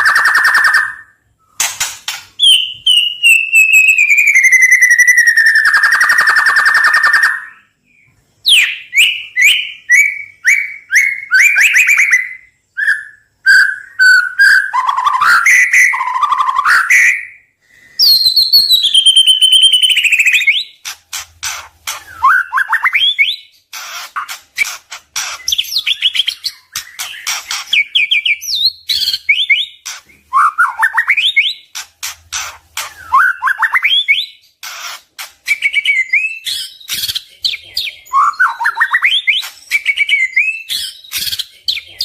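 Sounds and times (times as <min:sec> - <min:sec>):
bird singing trills and whistles: 0:00.0 - 0:42.0.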